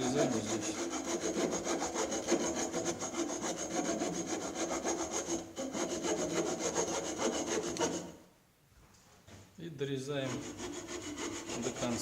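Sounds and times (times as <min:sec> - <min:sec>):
hacksaw cutting wood: 0:00.0 - 0:08.1, 0:10.3 - 0:12.0.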